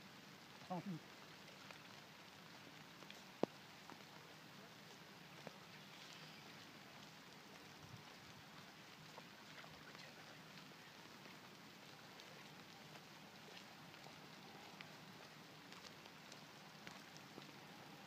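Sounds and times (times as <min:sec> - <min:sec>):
light rain hissing: 0:00.0 - 0:18.0
raindrops ticking: 0:00.0 - 0:18.0.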